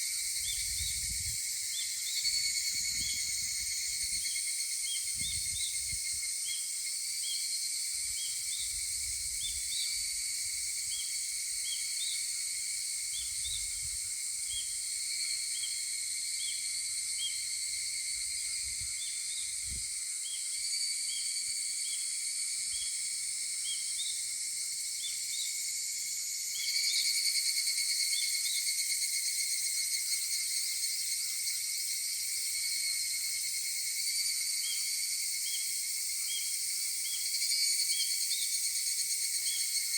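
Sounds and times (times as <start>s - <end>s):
cicadas calling: 0.0s - 39.9s.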